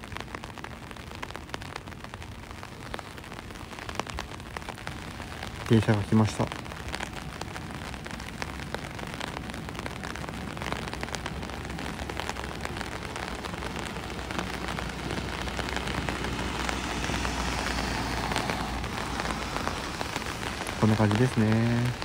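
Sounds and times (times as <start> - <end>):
raindrops ticking: 0.0 - 22.0
steady rain falling: 0.0 - 22.0
van tyres hissing on wet road: 2.4 - 22.0.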